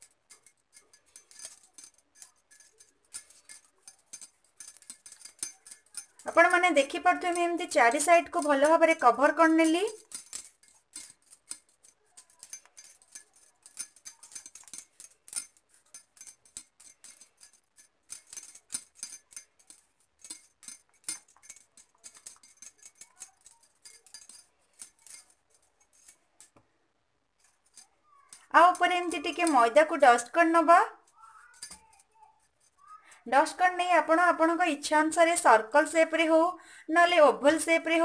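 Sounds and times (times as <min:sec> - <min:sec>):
bangles clinking: 0:00.0 - 0:26.6, 0:27.4 - 0:36.3.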